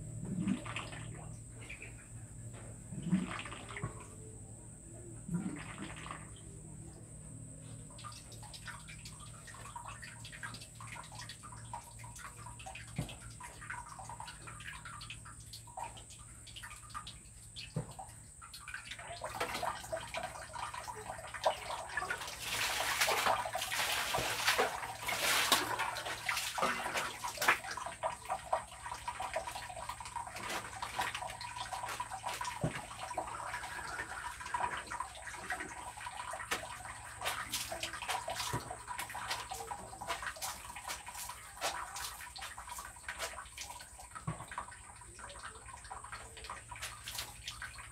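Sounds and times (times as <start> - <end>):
water dripping: 5.4 - 47.9
water pouring and splashing: 7.8 - 47.9.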